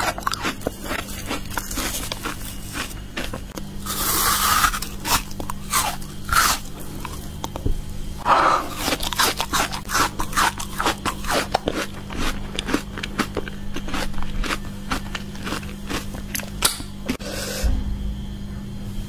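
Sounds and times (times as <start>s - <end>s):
biting frozen fruit: 0.0s - 7.6s, 8.7s - 17.2s
crunchy chewing: 0.0s - 7.6s, 8.6s - 17.2s.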